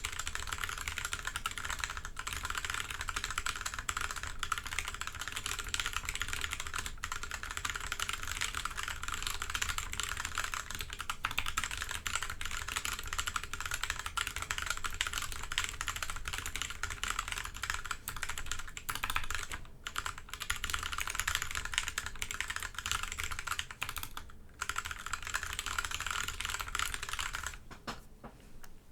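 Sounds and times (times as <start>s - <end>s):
fast mechanical keyboard typing: 0.0s - 27.6s.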